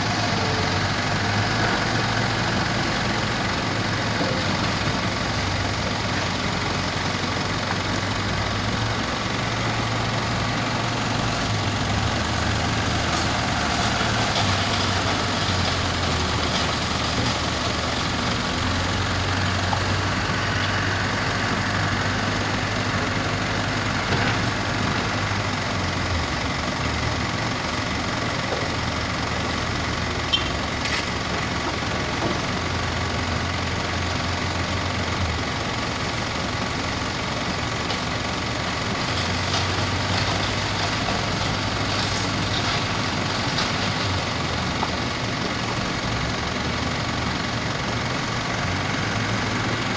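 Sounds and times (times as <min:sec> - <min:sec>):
heavy diesel engines working: 0:00.0 - 0:49.9.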